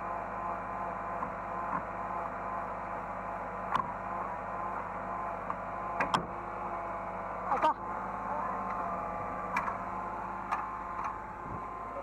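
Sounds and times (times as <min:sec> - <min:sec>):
excavator engine hum: 0:00.0 - 0:12.0.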